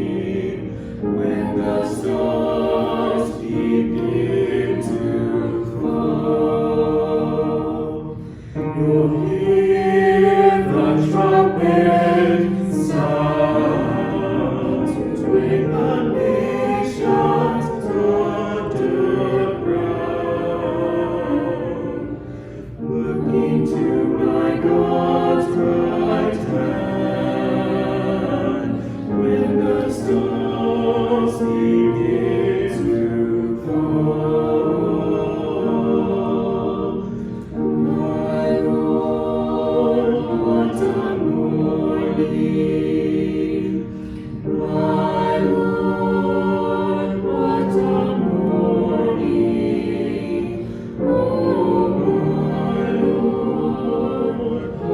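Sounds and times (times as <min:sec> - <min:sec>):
choir singing a worship song: 0:00.0 - 0:54.9.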